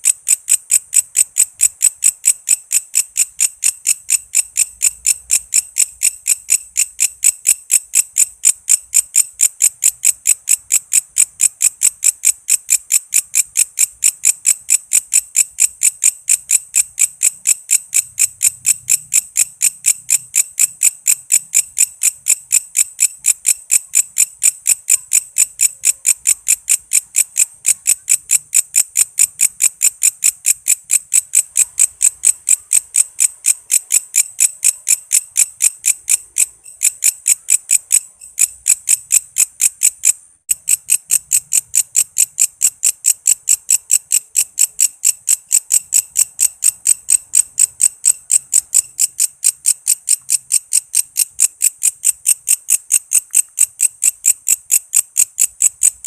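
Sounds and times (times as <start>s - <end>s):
katydid chirping: 0.0s - 56.0s.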